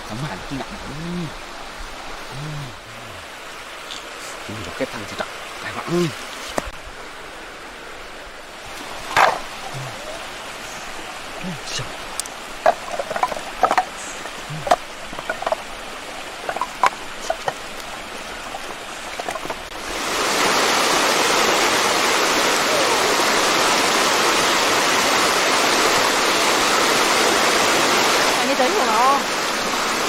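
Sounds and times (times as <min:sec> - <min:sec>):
stream water rushing: 0:00.0 - 0:30.0
water splashes: 0:00.0 - 0:30.0.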